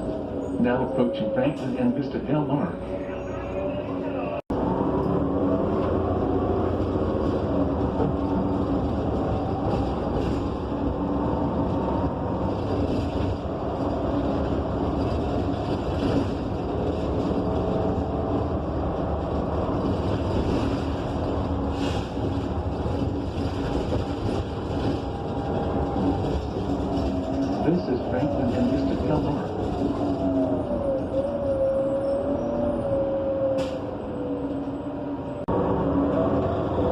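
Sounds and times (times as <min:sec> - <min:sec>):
bus engine drone: 0:00.0 - 0:36.9
road noise: 0:00.0 - 0:36.9.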